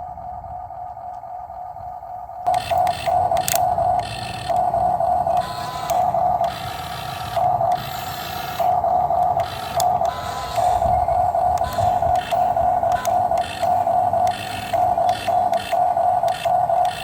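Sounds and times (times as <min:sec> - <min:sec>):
excavator engine rumble: 0:00.0 - 0:17.0
hydraulic whine: 0:00.0 - 0:17.0.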